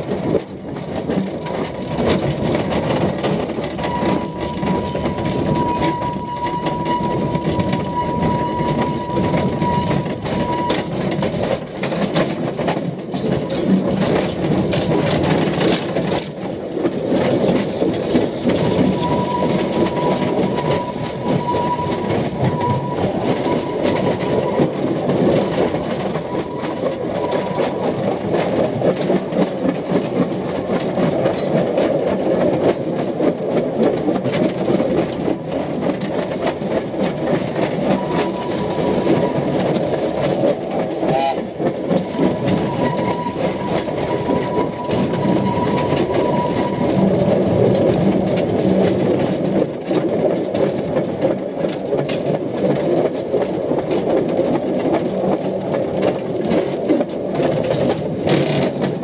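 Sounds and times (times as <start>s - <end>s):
train carriage rattling on track: 0.0s - 59.0s.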